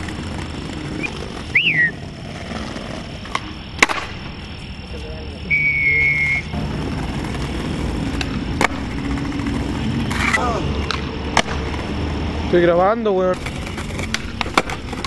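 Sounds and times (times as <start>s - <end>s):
skateboard clacks: 0.0s - 4.4s, 6.1s - 12.0s, 13.3s - 15.0s
skateboard wheels rolling on concrete: 0.0s - 15.0s.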